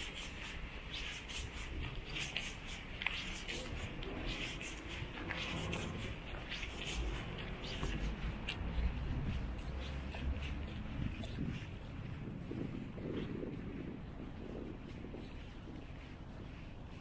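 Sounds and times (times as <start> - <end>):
low street rumble: 0.0 - 17.0.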